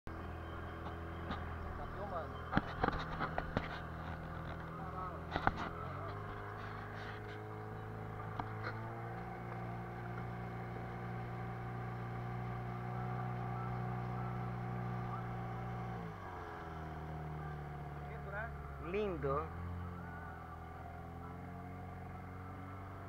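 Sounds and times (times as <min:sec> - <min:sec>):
outboard motor running: 0:00.1 - 0:23.0.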